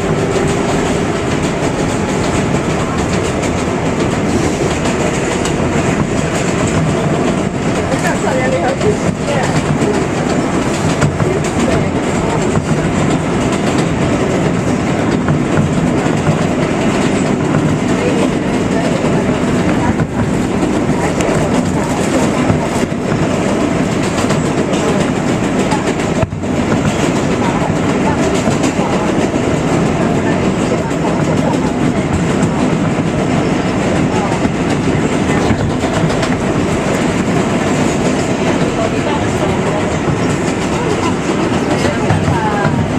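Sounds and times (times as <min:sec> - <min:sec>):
clacking over rail joints: 0:00.0 - 0:42.9
subway train wheels rumbling: 0:00.0 - 0:42.9.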